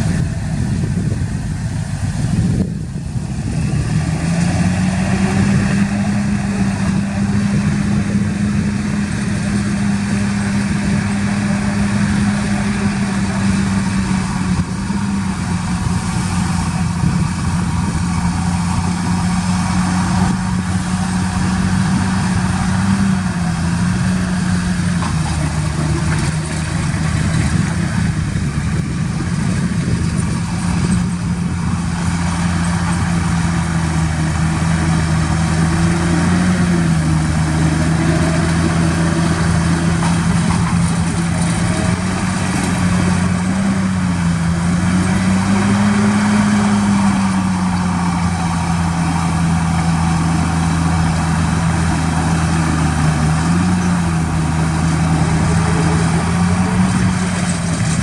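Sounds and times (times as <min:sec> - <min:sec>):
earthmoving machine diesel engine: 0:00.0 - 0:58.0.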